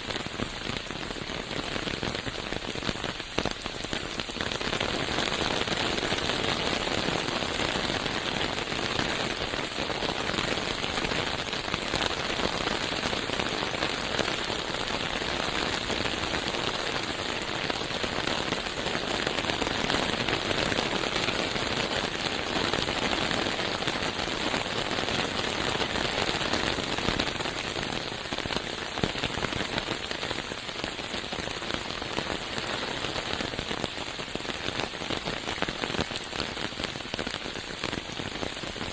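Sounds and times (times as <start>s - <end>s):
rain falling through forest: 0.0s - 38.9s.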